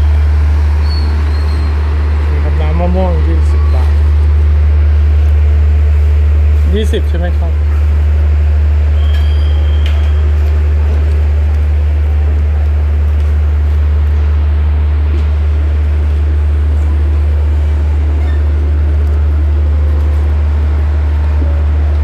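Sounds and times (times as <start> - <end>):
diesel train engine droning: 0.0 - 22.0.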